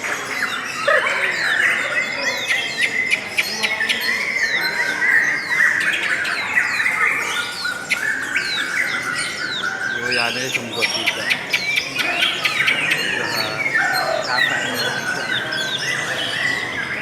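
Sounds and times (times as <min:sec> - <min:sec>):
lovebirds chattering: 0:00.0 - 0:17.0.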